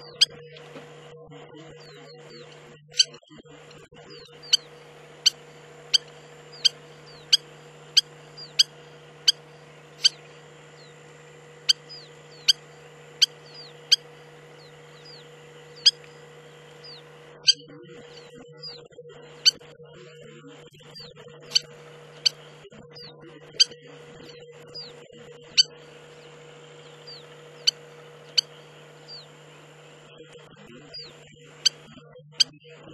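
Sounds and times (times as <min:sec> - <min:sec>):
lapwing sharp high calls: 0:00.0 - 0:19.7, 0:21.0 - 0:32.5
steady low hum: 0:00.0 - 0:32.9.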